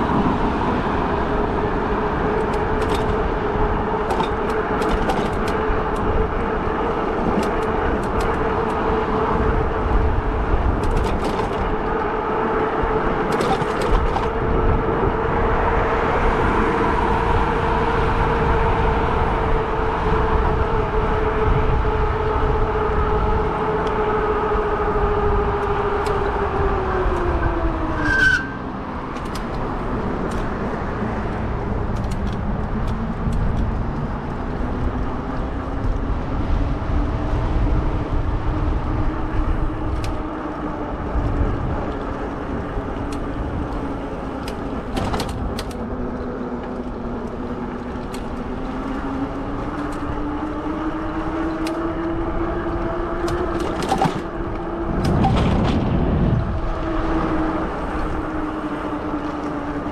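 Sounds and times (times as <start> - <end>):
wind and tyre rumble: 0.0 - 59.9.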